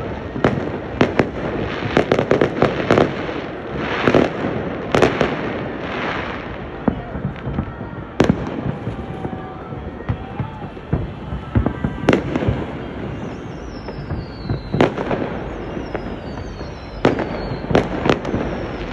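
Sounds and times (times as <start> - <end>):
fireworks bursting: 0.0 - 18.9
fireworks crackling: 0.0 - 18.9.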